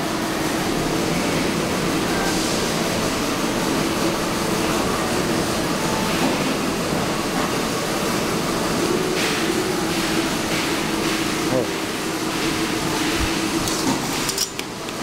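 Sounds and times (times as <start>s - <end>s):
factory machinery droning: 0.0s - 15.0s.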